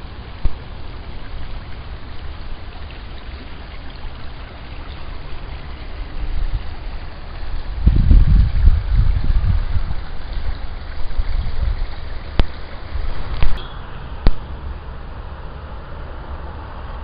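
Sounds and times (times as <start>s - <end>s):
brook babbling over stones: 0.0s - 17.0s.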